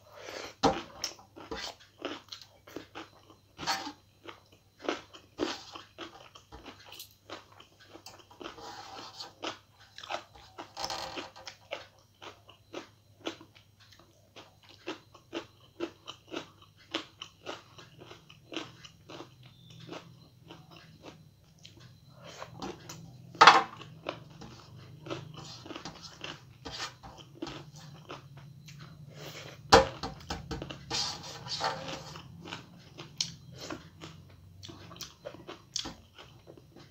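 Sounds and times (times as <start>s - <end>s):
person chewing food: 0.0s - 36.9s.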